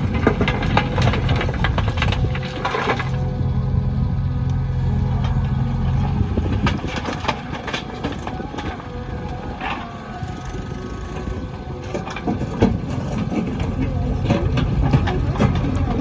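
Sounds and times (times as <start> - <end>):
knocks and clatter: 0.0 - 3.6, 4.5 - 10.0, 11.1 - 16.0
diesel engine droning: 0.0 - 16.0.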